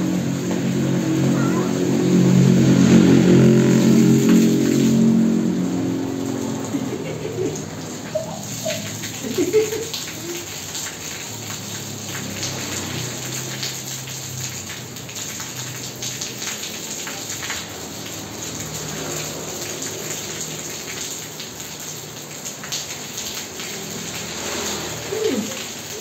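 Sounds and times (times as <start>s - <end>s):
rain on a tiled floor: 0.0s - 26.0s.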